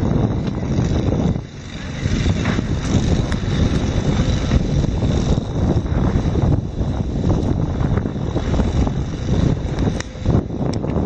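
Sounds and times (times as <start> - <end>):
loud low rumbling noise: 0.0 - 11.0.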